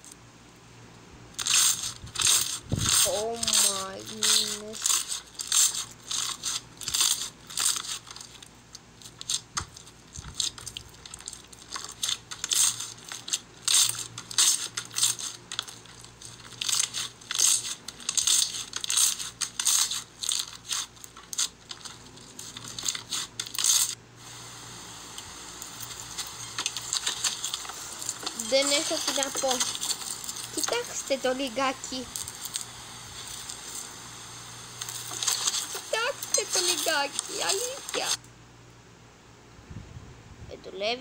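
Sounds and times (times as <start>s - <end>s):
slime squishing and crackling: 1.4s - 24.0s, 25.6s - 34.1s, 34.7s - 38.2s.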